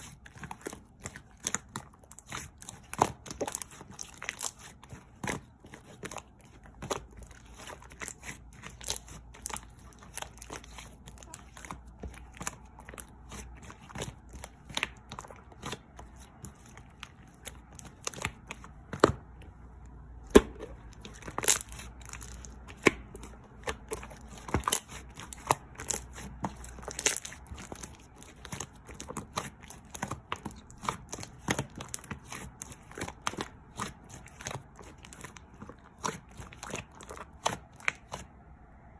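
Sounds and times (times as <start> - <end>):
close-up crinkling and crackling: 0.0 - 38.4.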